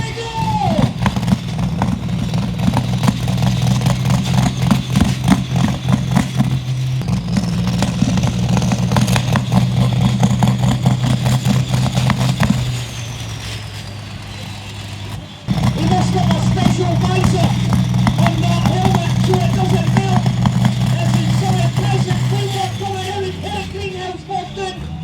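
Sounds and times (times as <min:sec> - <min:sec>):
exhaust crackling: 0:00.0 - 0:25.0
tractor engine running flat out: 0:00.0 - 0:25.0.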